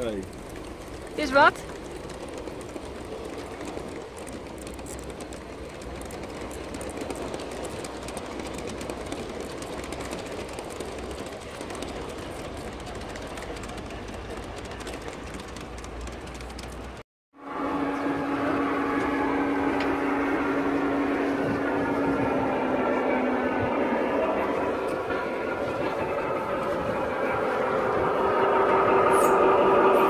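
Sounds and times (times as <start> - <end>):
model train rolling on track: 0.0 - 30.0.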